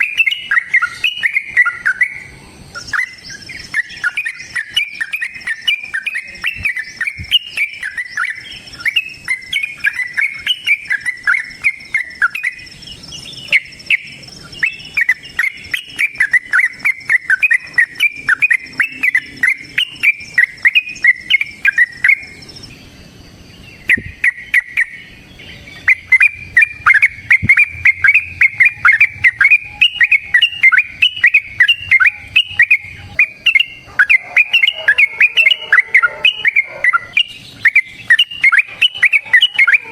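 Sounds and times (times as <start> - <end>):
bulbul singing chattering notes: 0.0 - 39.9.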